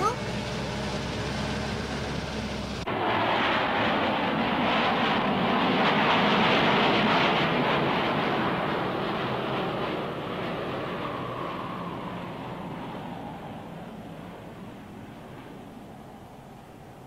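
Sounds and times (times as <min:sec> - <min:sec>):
jet aircraft flying over: 0:00.0 - 0:17.0.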